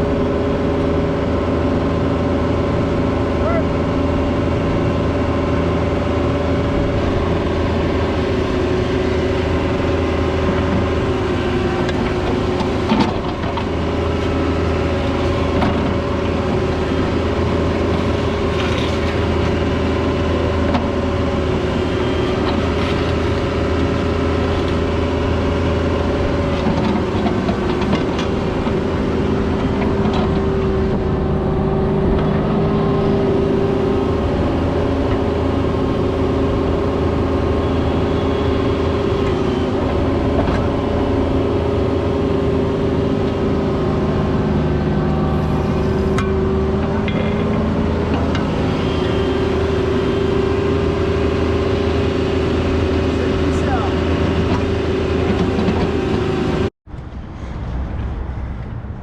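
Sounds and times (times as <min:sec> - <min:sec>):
mini excavator diesel engine: 0:00.0 - 0:59.0.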